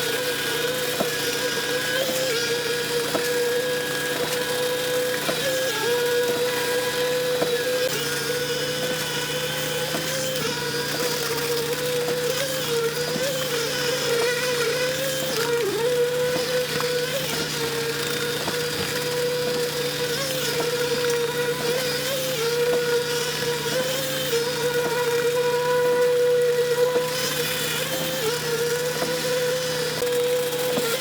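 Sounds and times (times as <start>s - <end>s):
machine whine: 0.0s - 31.0s.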